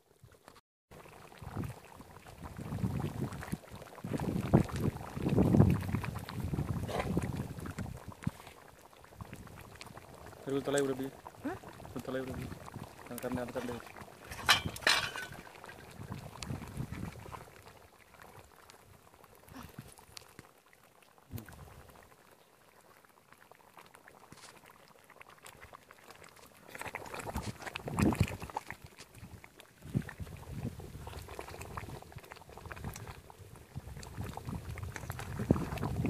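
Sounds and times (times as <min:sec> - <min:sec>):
gravy boiling in iron pot: 0:00.0 - 0:36.0.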